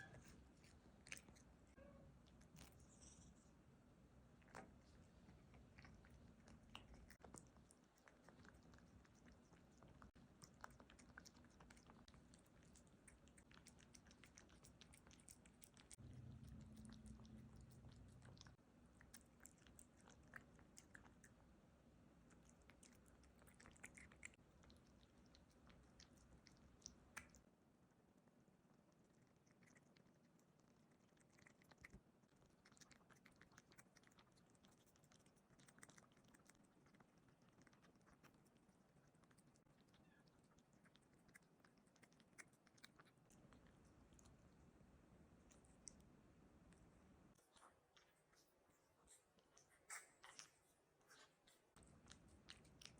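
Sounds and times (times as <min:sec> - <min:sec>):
kitten chewing cat food: 0:00.0 - 0:52.9.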